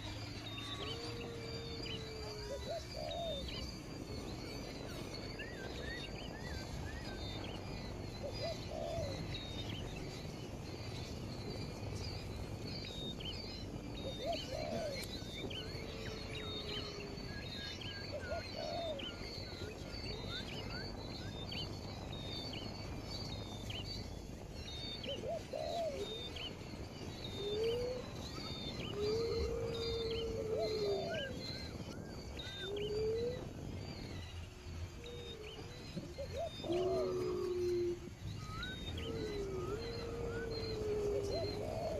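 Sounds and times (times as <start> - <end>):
low hooting bird calls: 0.0 - 41.9.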